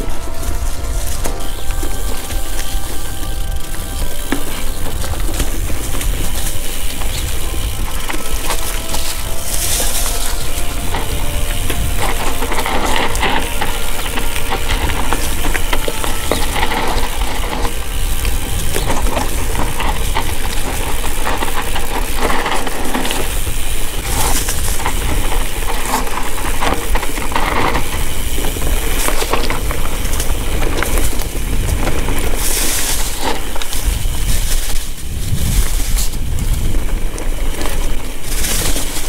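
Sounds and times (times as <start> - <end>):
bike rattling over bumps: 0.0 - 39.0
wind buffeting microphone: 0.0 - 39.0.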